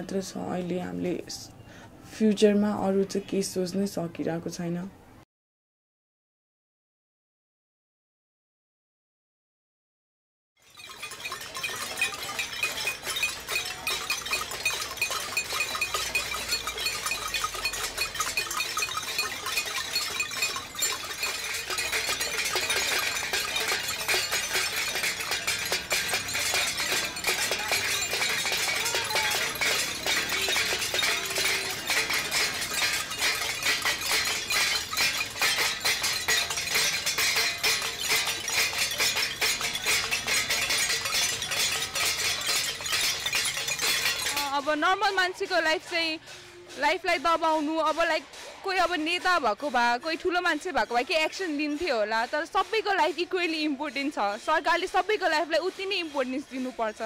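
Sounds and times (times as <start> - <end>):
spoons beating steel plates: 10.6 - 57.0.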